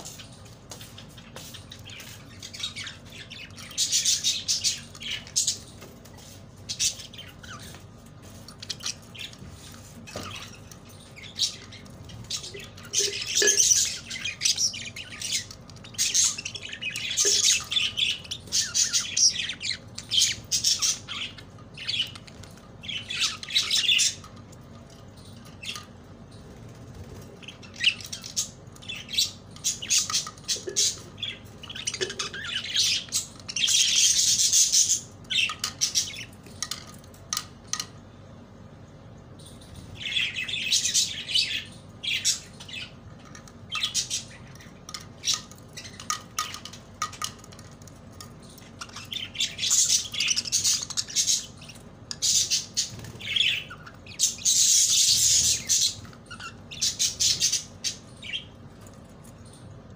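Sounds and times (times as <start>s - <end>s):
budgerigars chattering and squawking: 0.0s - 37.9s, 39.4s - 47.6s, 48.3s - 58.7s
beaks pecking in plastic dish: 0.0s - 38.0s, 42.1s - 58.5s.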